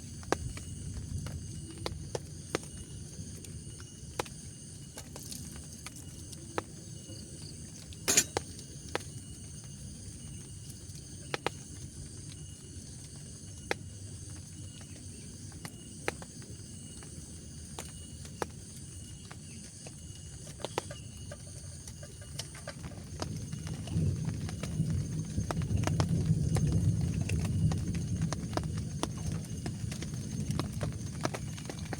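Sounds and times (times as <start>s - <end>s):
insects trilling: 0.0s - 31.9s.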